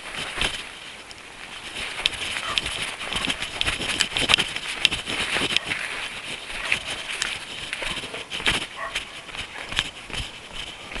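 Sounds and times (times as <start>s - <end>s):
outdoor background noise: 0.0s - 11.0s
running footsteps on path: 0.0s - 11.0s.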